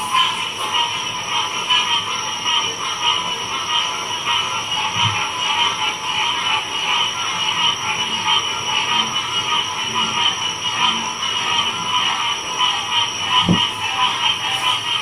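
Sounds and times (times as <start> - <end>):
chorus of frogs calling: 0.0 - 15.0.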